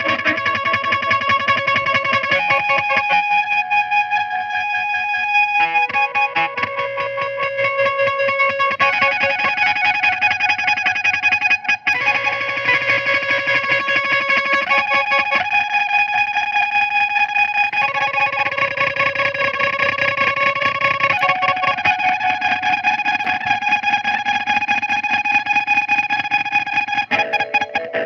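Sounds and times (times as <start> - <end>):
stuttering electric guitar drone: 0.0 - 28.0.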